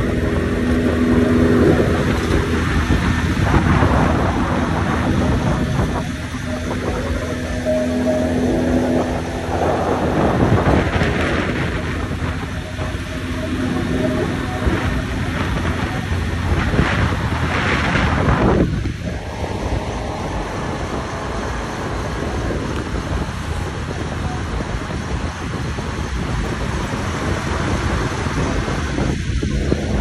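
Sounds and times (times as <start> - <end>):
road and traffic noise: 0.0 - 30.0
wind buffeting microphone: 0.0 - 30.0.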